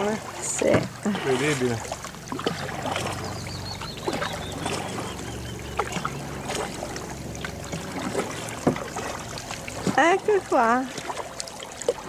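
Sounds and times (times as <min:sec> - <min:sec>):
kayak paddle strokes: 0:00.0 - 0:12.0
low steady hum: 0:00.0 - 0:12.0
paddle knocking: 0:00.0 - 0:12.0
water dripping: 0:01.7 - 0:12.0.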